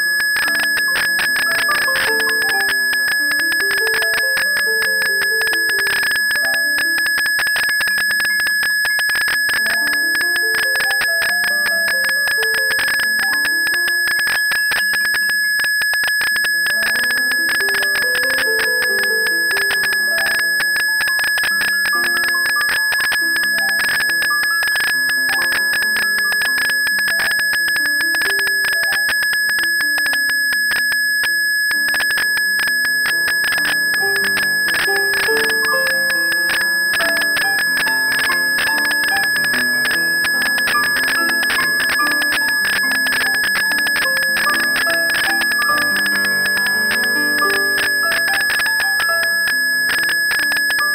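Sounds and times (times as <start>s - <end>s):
high ringing tone: 0.0s - 50.9s.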